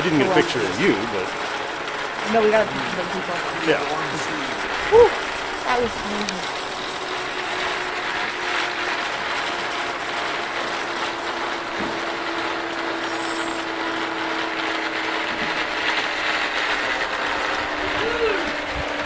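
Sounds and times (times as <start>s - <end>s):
zip-line pulleys whirring on cable: 0.0s - 19.0s.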